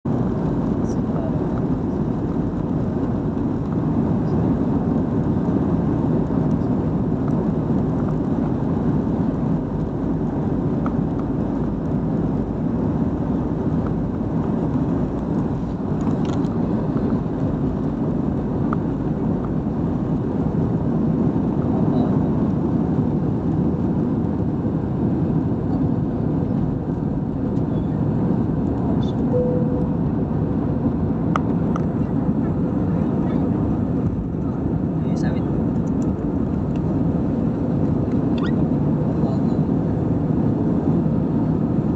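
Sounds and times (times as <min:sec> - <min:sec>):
airplane engines roaring: 0:00.0 - 0:41.9.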